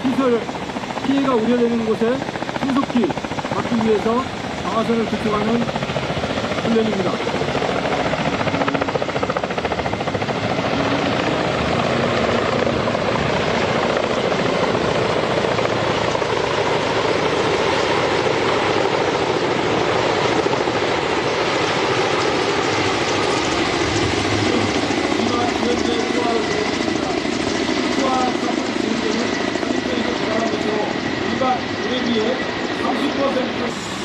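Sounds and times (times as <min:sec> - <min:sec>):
helicopter rotors chopping: 0:00.0 - 0:34.0.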